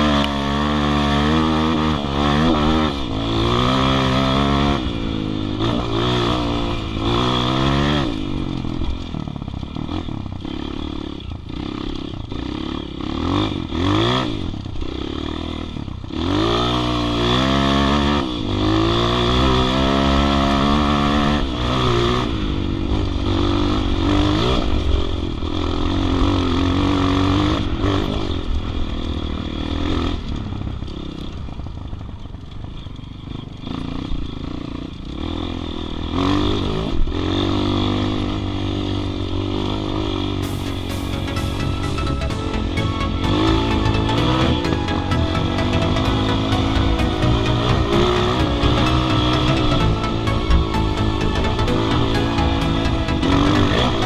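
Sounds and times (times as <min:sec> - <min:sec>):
dirt bike engine revving: 0:00.0 - 0:30.2, 0:33.6 - 0:54.0.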